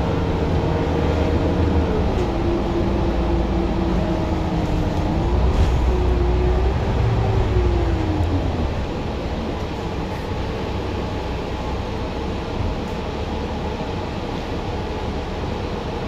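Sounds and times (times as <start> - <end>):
bus cabin rumble: 0.0 - 16.0
bus drivetrain whine: 0.0 - 16.0.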